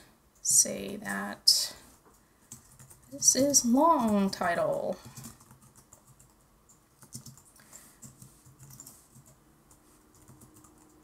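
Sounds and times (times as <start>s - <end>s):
faint keyboard typing: 2.0s - 11.0s.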